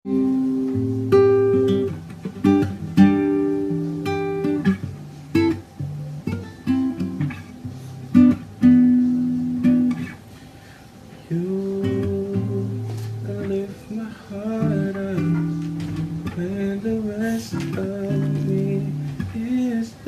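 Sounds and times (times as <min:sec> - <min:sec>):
acoustic guitar strumming chords: 0:00.1 - 0:20.0.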